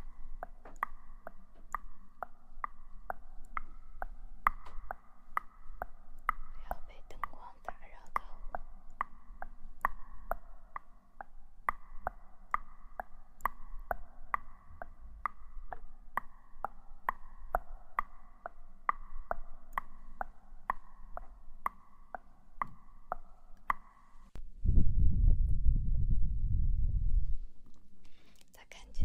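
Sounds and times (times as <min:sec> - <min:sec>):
clock ticking: 0:00.0 - 0:24.1
faint steady hum: 0:00.0 - 0:29.0.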